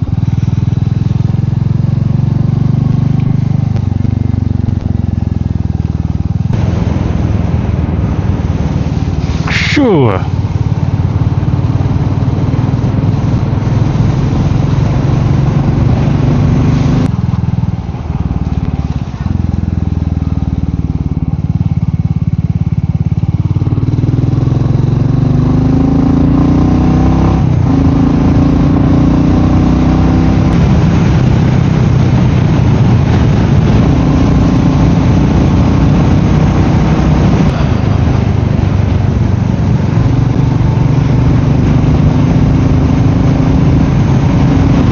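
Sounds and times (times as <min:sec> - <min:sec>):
wind noise: 0:00.0 - 0:01.6, 0:02.3 - 0:21.2, 0:23.2 - 0:44.9
motorcycle engine accelerating: 0:00.0 - 0:44.9.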